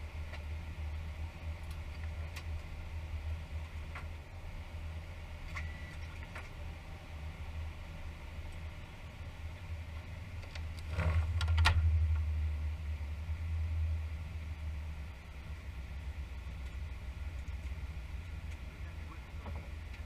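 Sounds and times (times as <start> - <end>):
low rumble of aircraft cockpit: 0.0 - 20.0.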